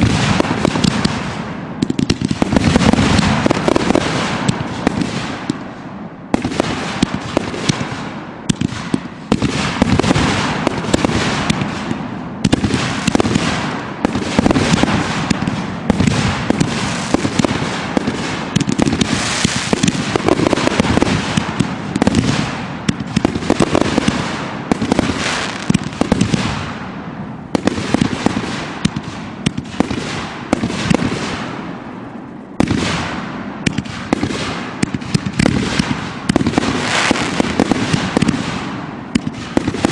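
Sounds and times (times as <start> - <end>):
fireworks banging: 0.0 - 39.9.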